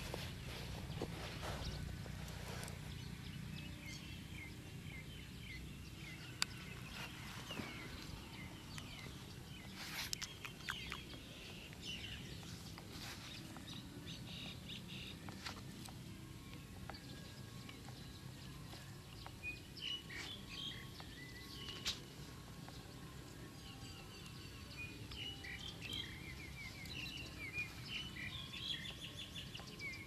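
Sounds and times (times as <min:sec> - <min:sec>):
bird chirping: 0:00.0 - 0:30.0.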